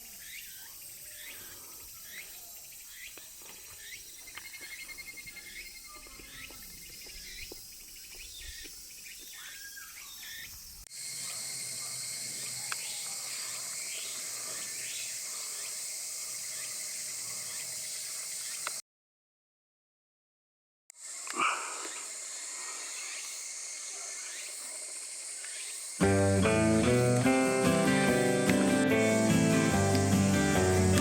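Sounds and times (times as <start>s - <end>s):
birds chirping: 0.0s - 18.8s, 21.1s - 31.0s
cicada chorus buzzing: 0.0s - 18.8s, 20.9s - 31.0s.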